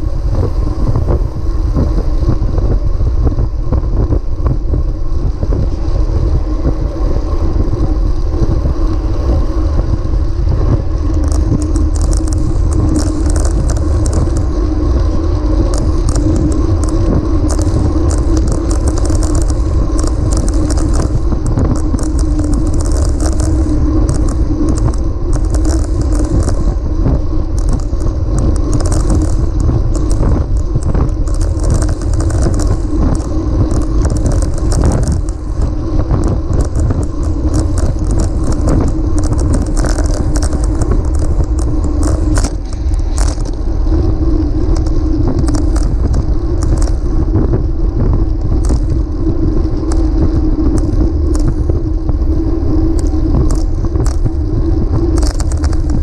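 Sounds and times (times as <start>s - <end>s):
bicycle tyre noise on pavement: 0.0s - 56.0s
wind buffeting microphone: 0.0s - 56.0s
rapid high ticking: 9.7s - 56.0s.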